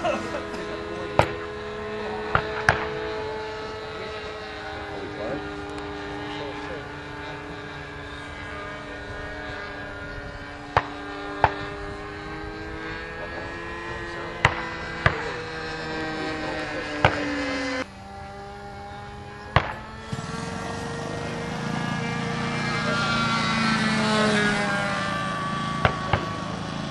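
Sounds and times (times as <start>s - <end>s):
model plane engine droning: 0.0s - 26.9s.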